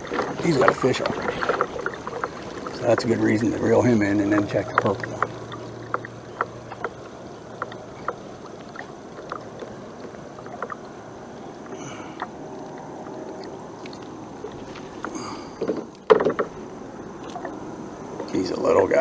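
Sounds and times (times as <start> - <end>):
water lapping against kayak hull: 0.0 - 19.0.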